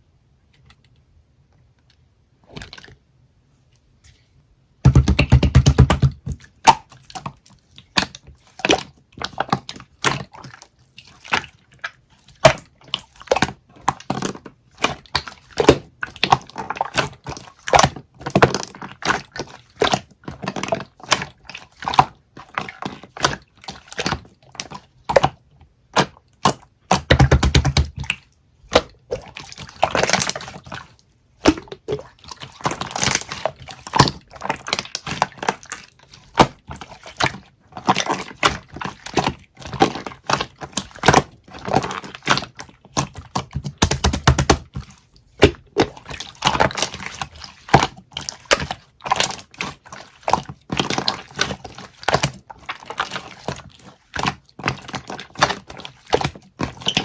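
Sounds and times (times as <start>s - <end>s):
slime squishing and crackling: 4.8s - 57.0s.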